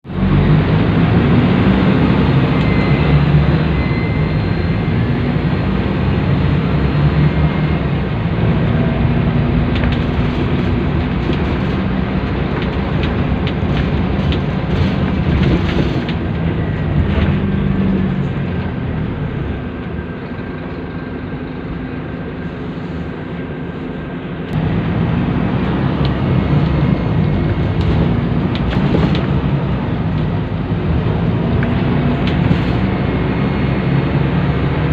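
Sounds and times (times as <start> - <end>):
bus engine drone: 0.0 - 34.9
road noise: 0.0 - 34.9.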